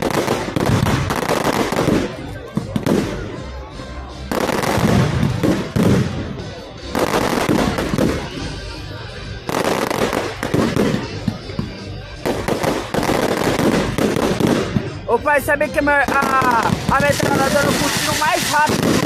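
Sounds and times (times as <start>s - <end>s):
faint music: 0.0s - 19.0s
faint voices: 0.0s - 19.0s
fireworks crackling: 0.0s - 19.0s.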